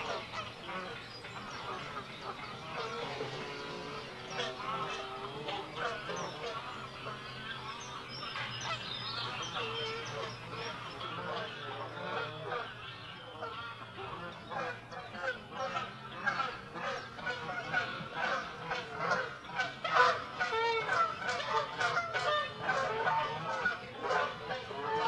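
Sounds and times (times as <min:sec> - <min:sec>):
geese honking: 0:00.0 - 0:25.0.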